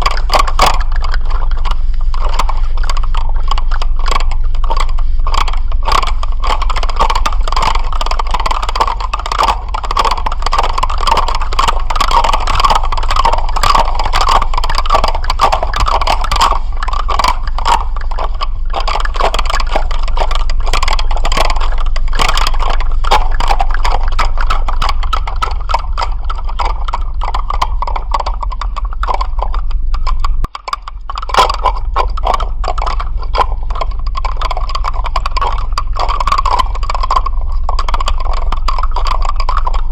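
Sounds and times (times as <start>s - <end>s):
dense rapid rattling clicks: 0.0s - 39.9s
steady low hum: 0.0s - 39.9s.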